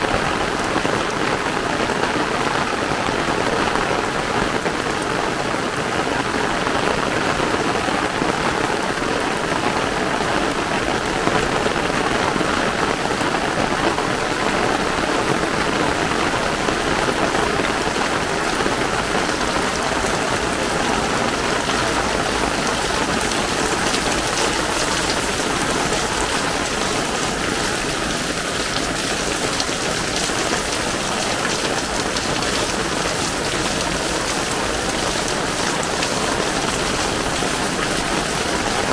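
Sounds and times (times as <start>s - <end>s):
heavy rain on wet pavement: 0.0s - 38.9s.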